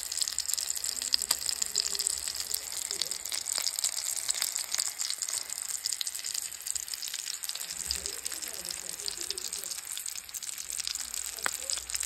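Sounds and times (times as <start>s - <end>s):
fish sizzling in a pan: 0.0s - 12.0s.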